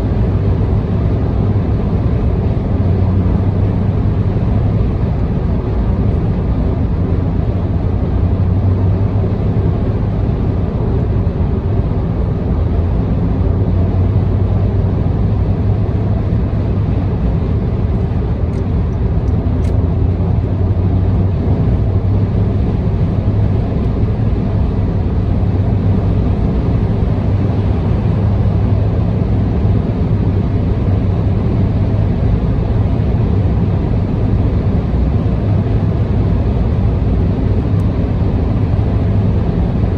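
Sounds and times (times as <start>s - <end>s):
car interior road noise: 0.0s - 39.9s.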